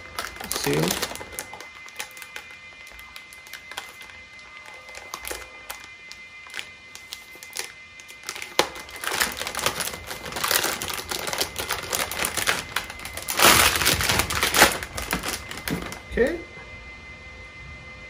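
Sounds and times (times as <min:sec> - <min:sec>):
packaging crinkling and clicking: 0:00.0 - 0:16.0.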